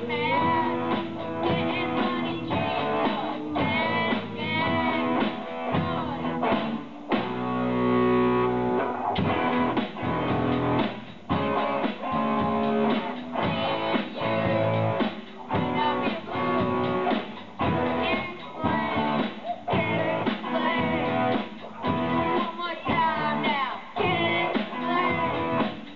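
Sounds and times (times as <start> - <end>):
live rock band playing: 0.0 - 25.9.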